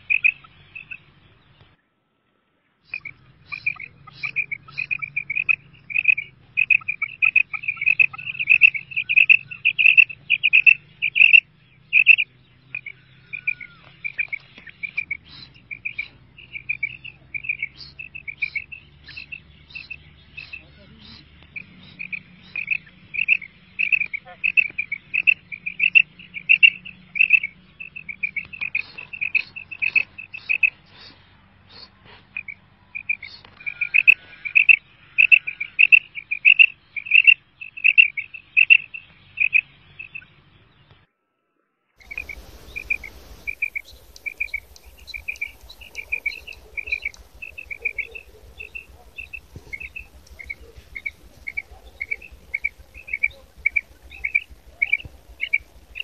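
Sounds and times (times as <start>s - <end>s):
quail calling: 0.0s - 1.1s, 2.9s - 31.1s, 31.7s - 40.2s, 42.0s - 56.0s.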